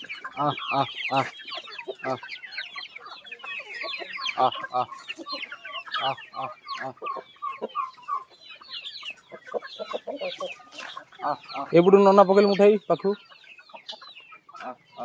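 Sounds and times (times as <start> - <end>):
chickens chirping and clucking: 0.0 - 15.0.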